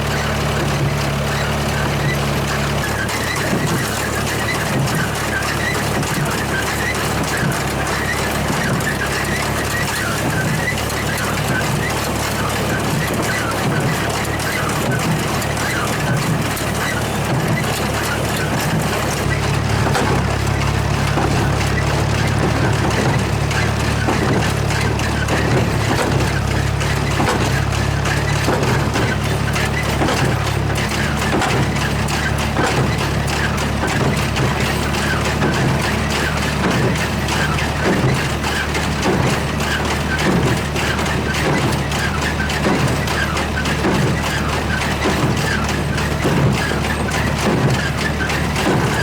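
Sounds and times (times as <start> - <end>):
short high squeaks: 0.0 - 49.0
tractor engine running: 0.0 - 49.0.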